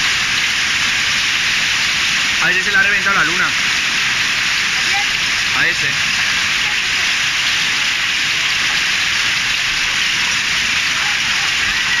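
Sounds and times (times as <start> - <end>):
hail and heavy rain on pavement: 0.0 - 12.0.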